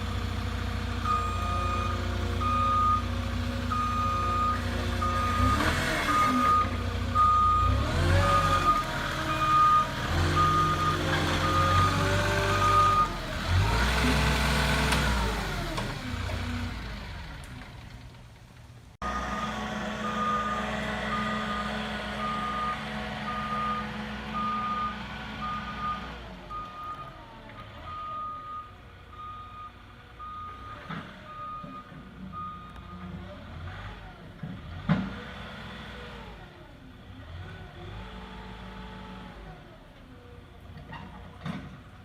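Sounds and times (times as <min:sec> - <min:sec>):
forklift engine running: 0:00.0 - 0:42.0.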